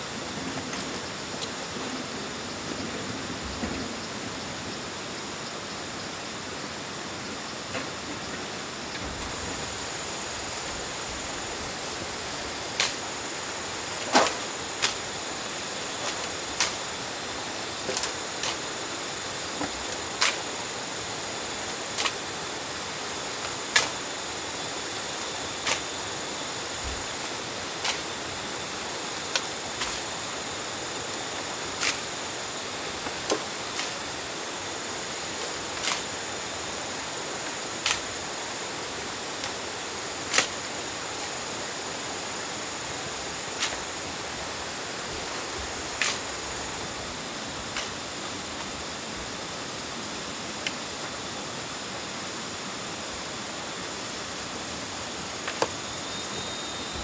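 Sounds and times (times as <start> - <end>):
steady high-pitched hiss: 0.0 - 57.0.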